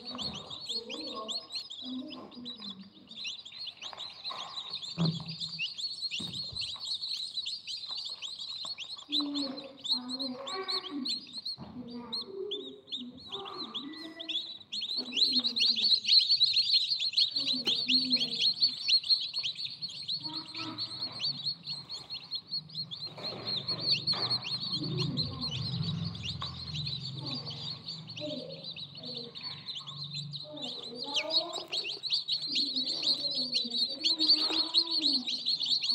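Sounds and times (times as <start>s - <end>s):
baby birds cheeping: 0.0s - 35.9s.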